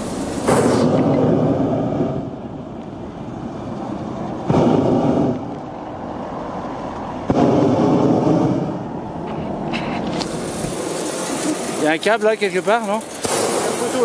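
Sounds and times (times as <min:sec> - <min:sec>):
propane burner blasting: 0:00.0 - 0:14.0.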